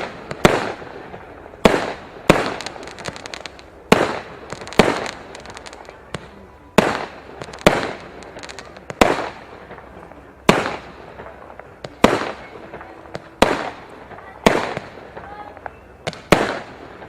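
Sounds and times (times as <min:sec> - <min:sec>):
faint fireworks crackling: 0:00.0 - 0:17.0
fireworks bangs echoing: 0:00.0 - 0:17.0.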